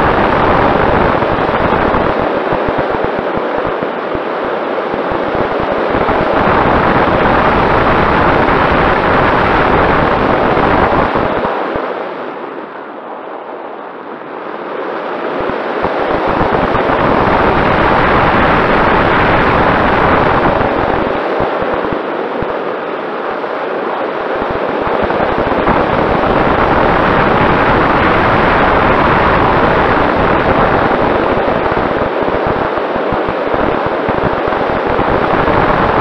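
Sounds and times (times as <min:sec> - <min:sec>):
air buffeting microphone: 0:00.0 - 0:36.0.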